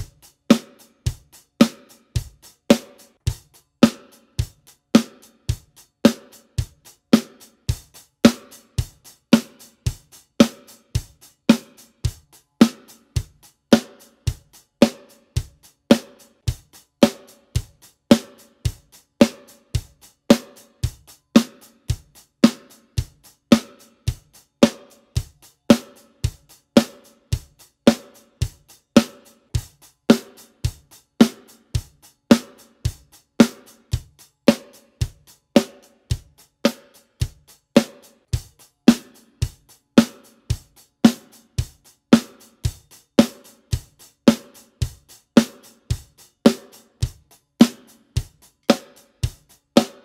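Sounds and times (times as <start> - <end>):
bass drum: 0.0 - 50.0
hi-hat: 0.0 - 50.0.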